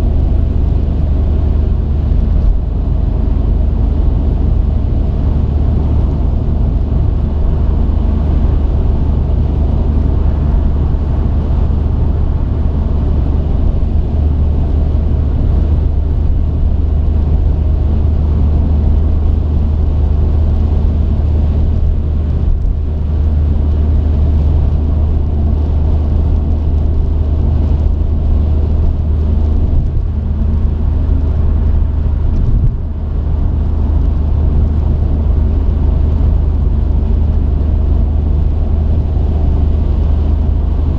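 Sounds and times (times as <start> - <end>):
road noise inside cab: 0.0 - 40.9
truck engine drone: 0.0 - 40.9.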